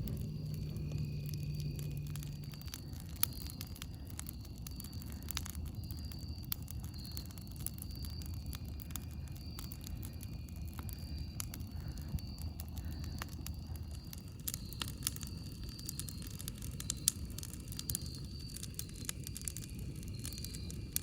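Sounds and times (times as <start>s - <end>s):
campfire low rumble: 0.0s - 21.0s
faint high-pitched tones: 0.0s - 21.0s
wood crackling and popping: 0.0s - 21.0s.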